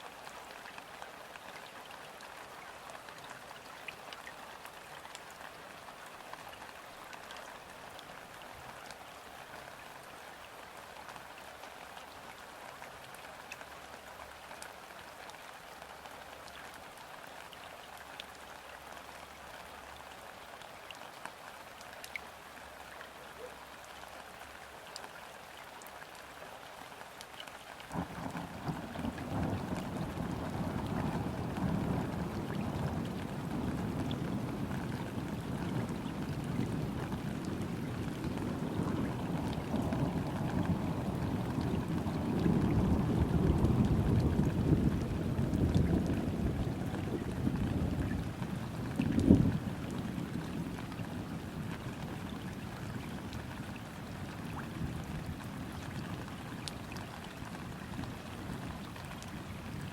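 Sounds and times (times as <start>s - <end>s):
gentle rain on river surface: 0.0s - 59.9s.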